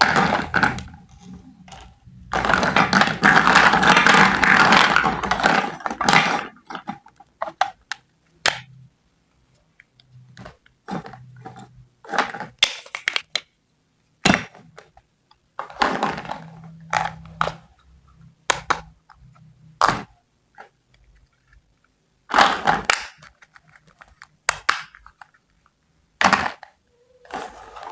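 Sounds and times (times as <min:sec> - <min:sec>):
small pieces clicking and tapping: 0:00.0 - 0:08.7, 0:09.7 - 0:13.5, 0:14.2 - 0:26.8.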